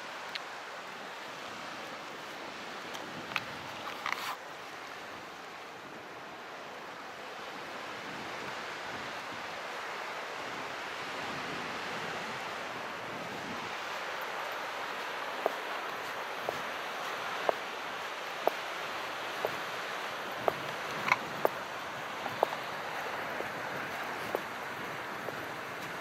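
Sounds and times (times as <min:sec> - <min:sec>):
sea surf waves: 0:00.0 - 0:26.0.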